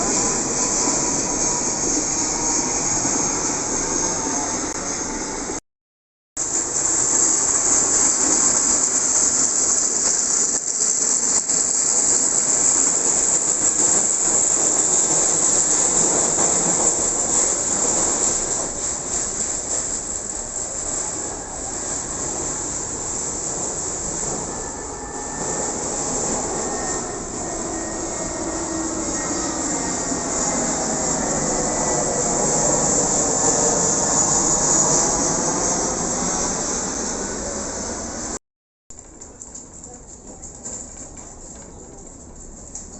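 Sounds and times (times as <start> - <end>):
jet engine roar: 0.0 - 5.6, 6.4 - 38.4.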